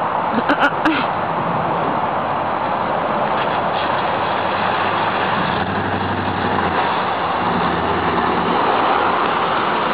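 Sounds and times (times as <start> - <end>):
loud steady rushing noise: 0.0 - 9.9.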